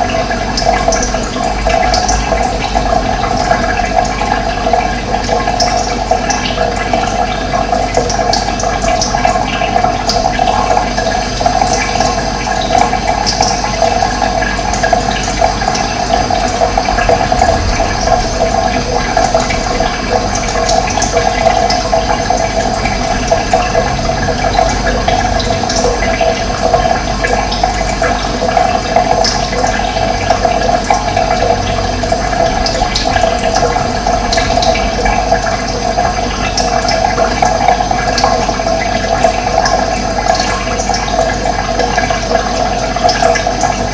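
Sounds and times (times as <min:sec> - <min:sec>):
running water flowing: 0:00.0 - 0:43.9.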